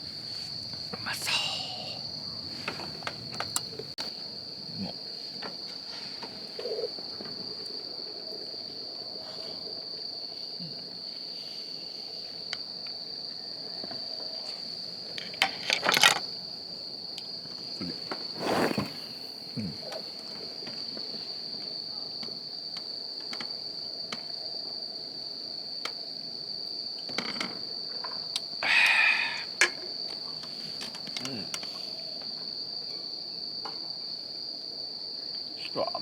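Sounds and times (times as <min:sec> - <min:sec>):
crickets trilling: 0:00.0 - 0:36.0.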